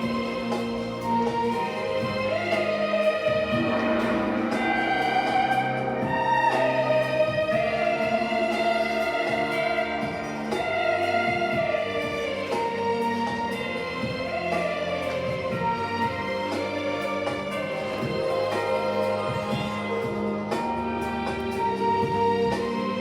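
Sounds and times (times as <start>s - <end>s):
orchestral music: 0.0s - 23.0s.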